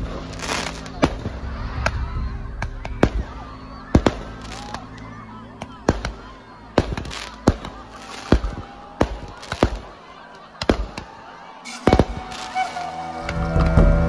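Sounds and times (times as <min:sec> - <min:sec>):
fireworks bursting: 0:00.0 - 0:14.0
fireworks crackling hiss: 0:00.0 - 0:14.0.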